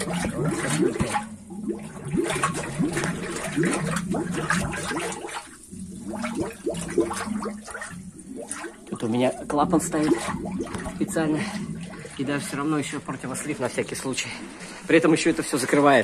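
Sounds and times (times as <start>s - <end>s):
steady low hum: 0.0s - 15.7s
water gurgling and bubbling: 0.0s - 16.0s.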